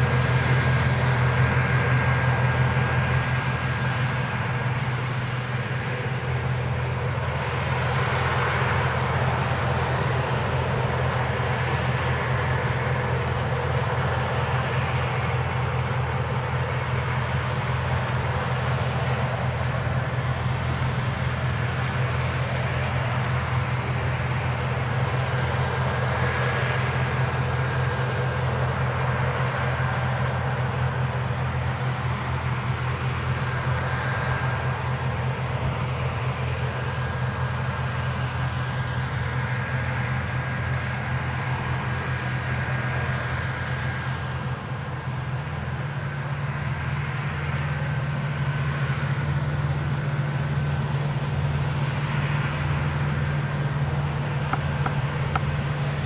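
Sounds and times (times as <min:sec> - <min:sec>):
combine harvester droning: 0:00.0 - 0:56.0
crickets chirping: 0:00.0 - 0:56.0.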